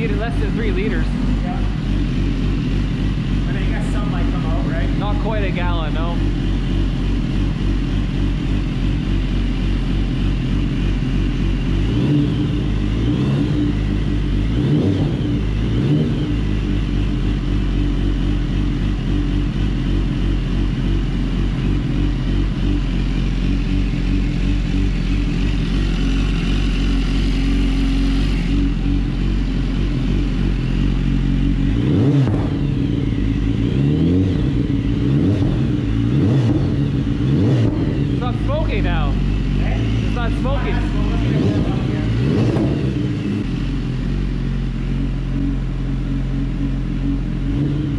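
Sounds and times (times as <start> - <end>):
motorcycle engine running and revving: 0.0 - 47.9.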